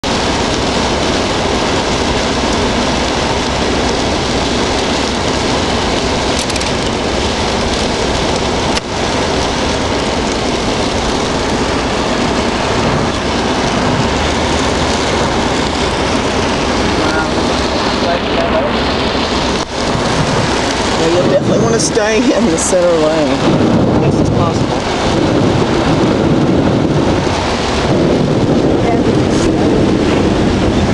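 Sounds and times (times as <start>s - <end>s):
rain: 0.0s - 30.9s
tyres rushing on wet road: 0.0s - 30.9s.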